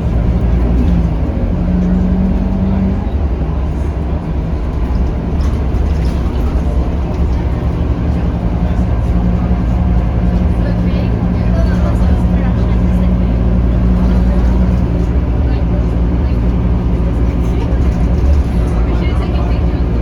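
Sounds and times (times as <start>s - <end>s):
bus engine droning: 0.0s - 20.0s
road noise hum: 0.0s - 20.0s.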